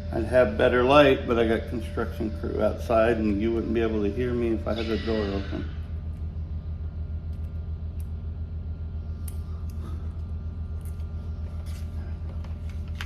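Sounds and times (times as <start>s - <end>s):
construction machinery rumble: 0.0s - 13.0s.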